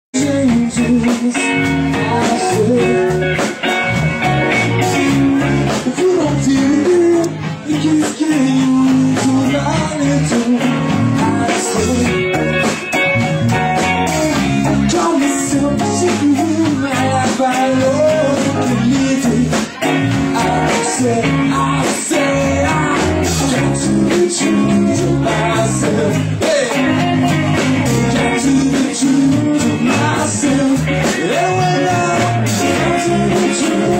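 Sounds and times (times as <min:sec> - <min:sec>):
guitar: 0:00.1 - 0:33.9
live rock band playing: 0:00.2 - 0:33.9.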